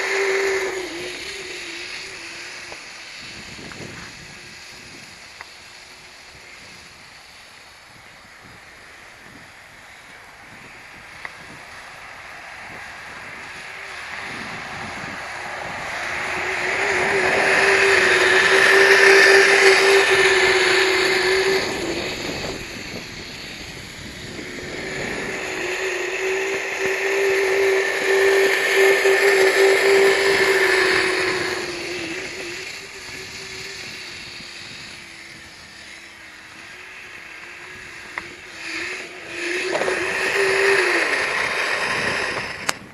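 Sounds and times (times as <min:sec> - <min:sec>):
electric motor whining: 0:00.0 - 0:42.9
tracks rushing hiss: 0:00.0 - 0:42.9.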